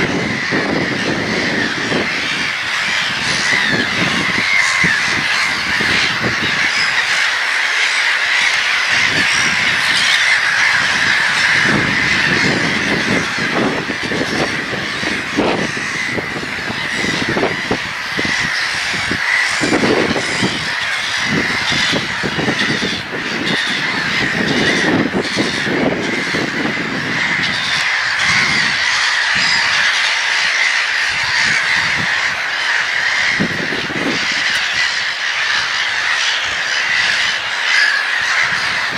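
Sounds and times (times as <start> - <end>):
flock of gulls squawking: 0.0 - 38.9.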